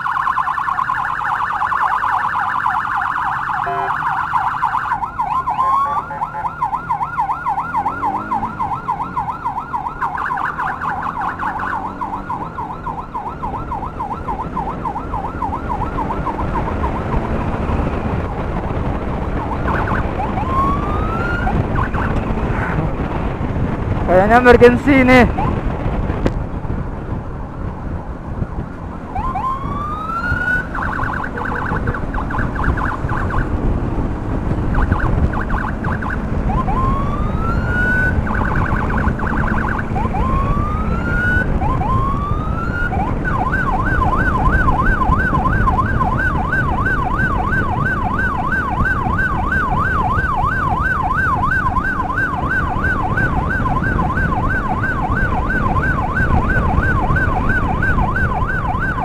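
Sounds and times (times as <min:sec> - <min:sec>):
electronic emergency siren: 0:00.0 - 0:22.8, 0:24.4 - 0:25.6, 0:29.0 - 0:33.7, 0:34.5 - 0:59.0
wind and road noise: 0:00.0 - 0:59.0.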